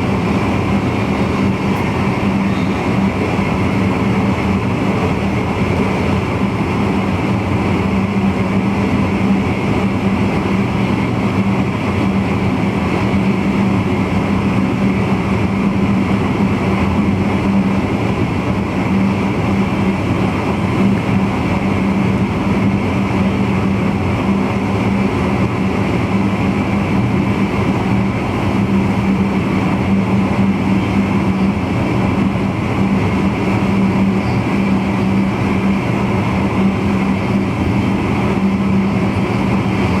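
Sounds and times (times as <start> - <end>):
constant low hum: 0.0 - 40.0
train cab running noise: 0.0 - 40.0.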